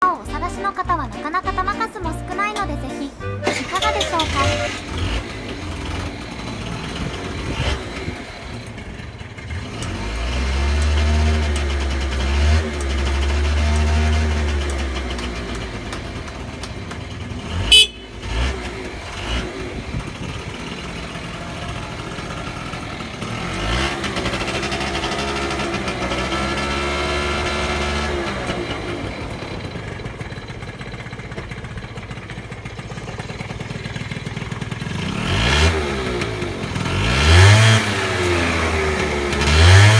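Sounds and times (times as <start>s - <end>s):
scooter engine revving: 1.5s - 39.9s.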